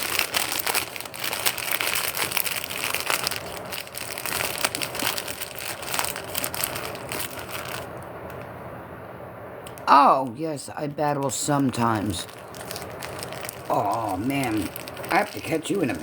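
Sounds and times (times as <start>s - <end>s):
sharp crinkling and crunching: 0.0s - 8.6s, 9.6s - 16.0s.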